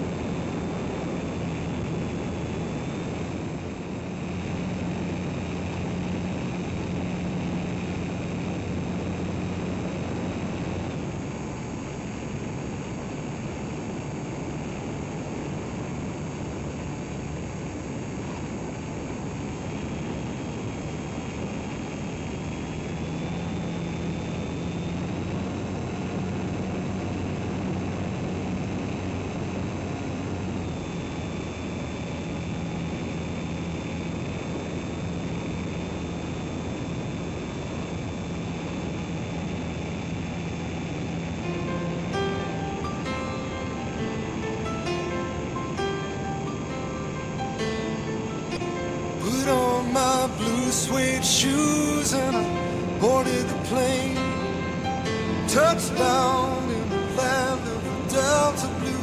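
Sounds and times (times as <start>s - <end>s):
electric motor and propeller running: 0.0s - 59.0s.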